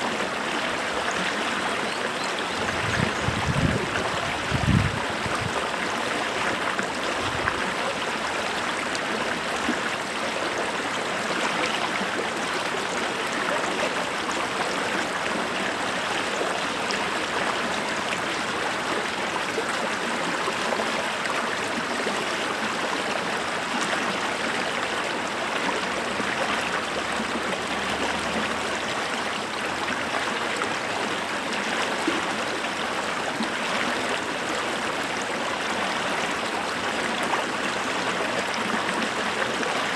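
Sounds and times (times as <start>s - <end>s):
creek water flowing over stones: 0.0s - 39.9s.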